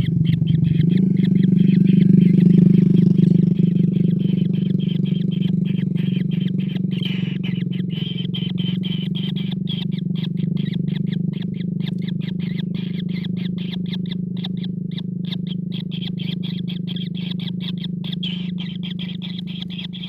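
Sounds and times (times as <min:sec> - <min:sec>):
kingfisher chattering calls: 0:00.0 - 0:20.0
steady low hum: 0:00.0 - 0:20.0.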